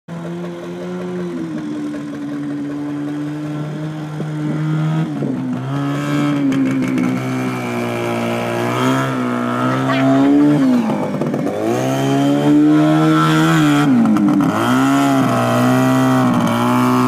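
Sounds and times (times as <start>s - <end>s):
atv engine running: 0.1s - 17.0s.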